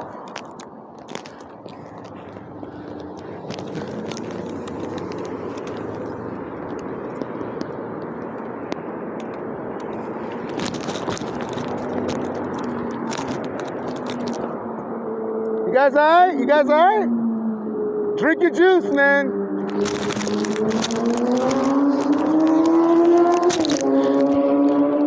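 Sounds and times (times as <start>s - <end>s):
vehicle noise: 0.0s - 25.0s.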